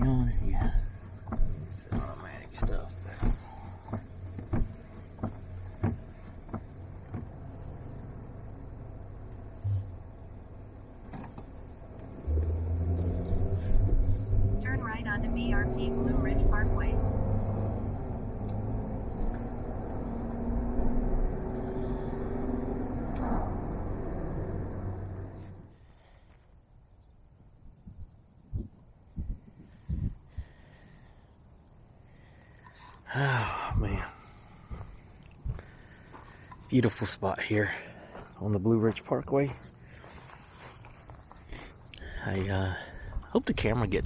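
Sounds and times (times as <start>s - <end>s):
low hum: 0.0s - 38.5s
car engine and road drone: 0.0s - 44.0s.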